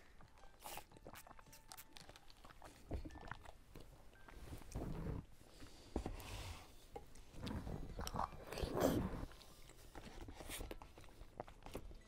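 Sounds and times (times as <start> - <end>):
person chewing food: 0.0 - 6.3, 7.0 - 12.0.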